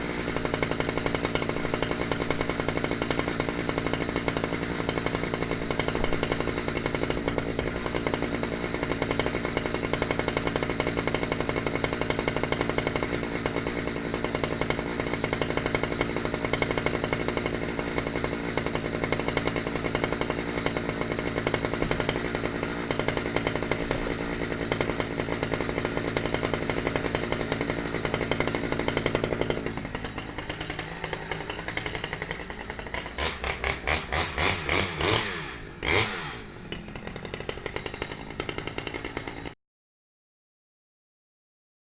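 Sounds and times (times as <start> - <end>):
chainsaw engine revving: 0.0 - 39.6.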